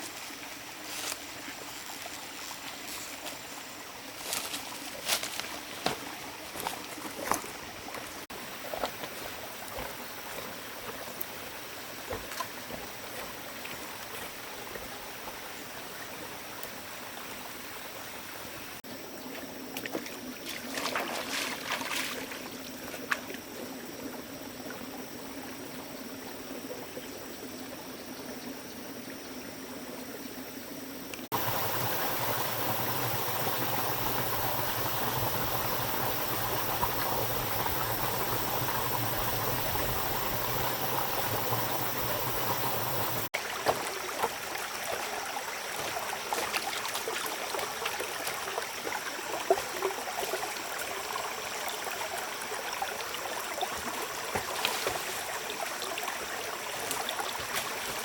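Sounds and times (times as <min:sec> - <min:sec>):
running water rushing: 0:00.0 - 0:18.8, 0:19.4 - 0:23.8, 0:31.3 - 0:58.0.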